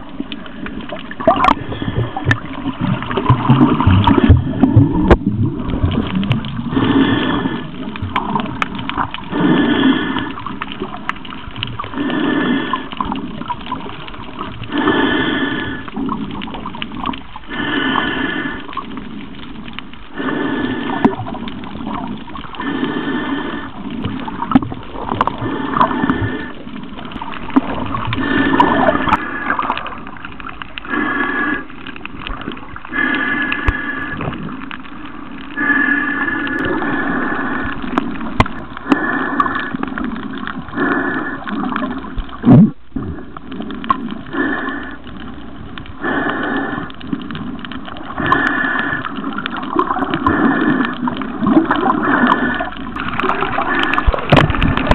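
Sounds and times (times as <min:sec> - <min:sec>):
water gurgling and sloshing: 0:00.0 - 0:54.9.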